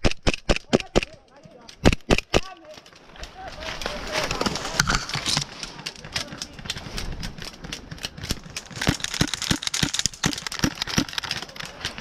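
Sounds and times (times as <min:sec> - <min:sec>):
brush snapping and crackling: 0:00.0 - 0:12.0.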